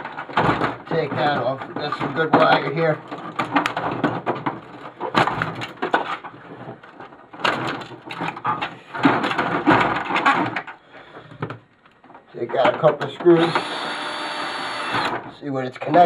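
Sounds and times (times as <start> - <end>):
plastic parts crackling and rattling: 0.0 - 16.0.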